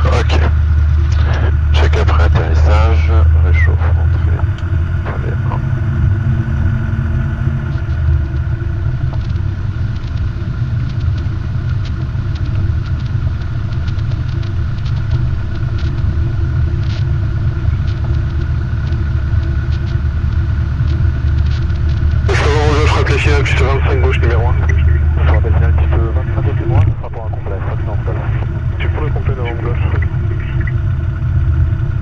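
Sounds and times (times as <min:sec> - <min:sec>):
aircraft engine droning: 0:00.0 - 0:32.0.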